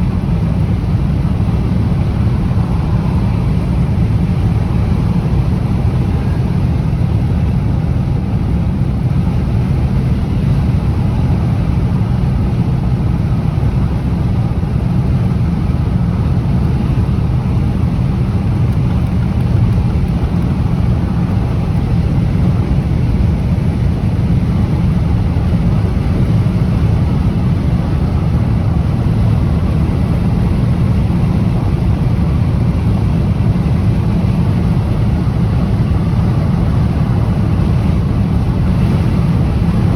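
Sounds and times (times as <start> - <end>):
wind blowing across microphone: 0.0 - 39.9.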